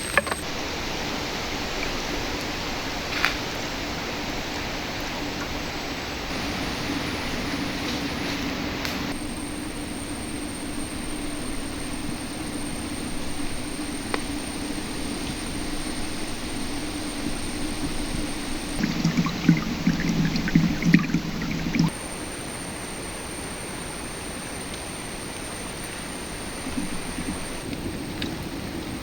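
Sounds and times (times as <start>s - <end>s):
shallow river water rushing: 0.4s - 22.0s, 25.5s - 29.0s.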